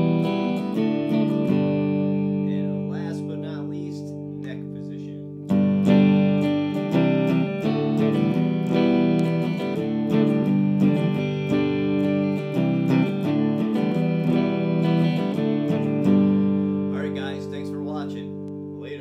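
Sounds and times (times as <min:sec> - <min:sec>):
clean electric guitar chords: 0:00.0 - 0:19.0.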